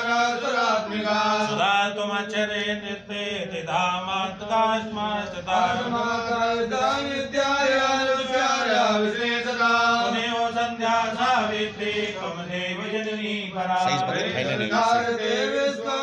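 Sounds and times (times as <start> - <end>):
priests chanting: 0.0 - 16.0.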